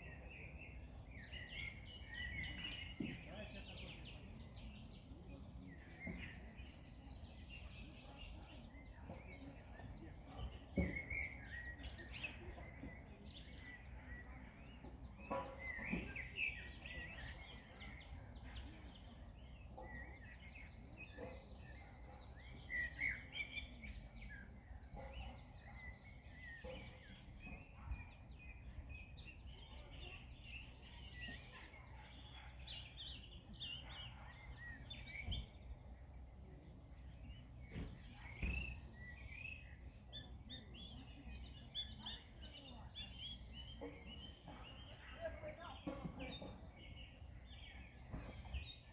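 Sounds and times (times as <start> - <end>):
songbirds chirping and singing: 0.0 - 48.9.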